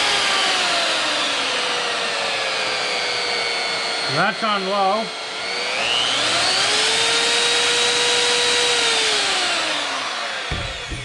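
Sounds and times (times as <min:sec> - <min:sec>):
router motor whine: 0:00.0 - 0:11.0.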